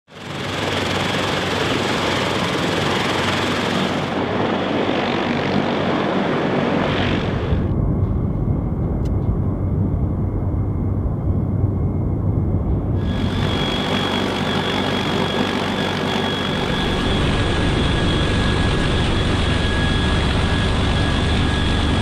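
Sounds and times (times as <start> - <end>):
helicopter turbine and rotor roar: 0.1 - 22.0.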